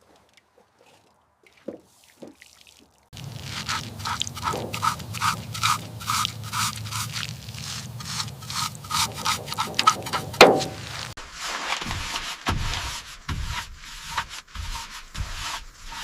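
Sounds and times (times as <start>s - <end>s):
hand scraping corroded surface: 3.2s - 16.0s.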